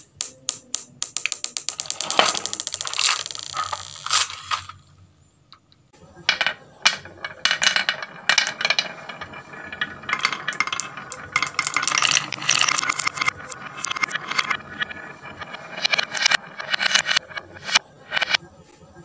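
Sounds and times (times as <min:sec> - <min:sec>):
marbles clacking on wooden tracks: 0:00.0 - 0:04.8, 0:06.2 - 0:18.4.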